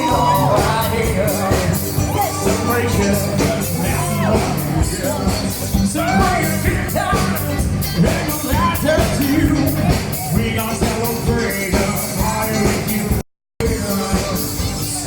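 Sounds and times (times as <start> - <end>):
bass: 0.0 - 15.0
person singing: 0.0 - 15.0
rock music drum beat: 0.0 - 15.0.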